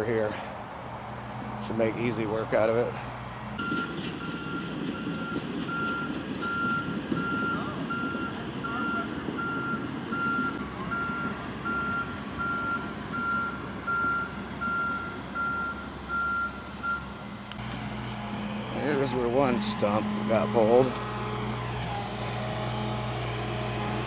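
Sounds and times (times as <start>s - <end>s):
excavator engine running: 0.0s - 24.0s
excavator backup alarm beeping: 0.5s - 23.3s.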